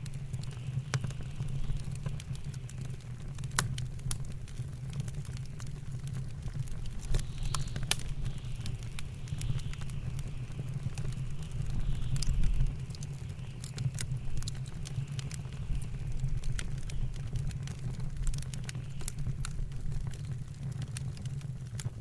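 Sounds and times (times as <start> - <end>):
blizzard wind rumbling: 0.0 - 21.8
wood fire crackling and popping: 0.0 - 22.0.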